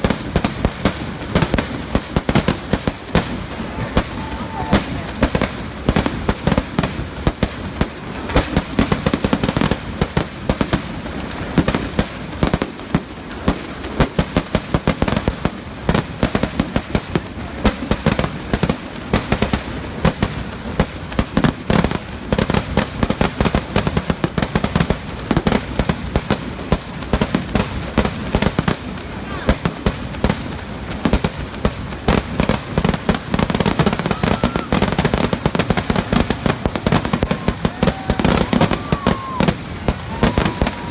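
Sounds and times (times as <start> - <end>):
firecracker blasts: 0.0 - 40.9.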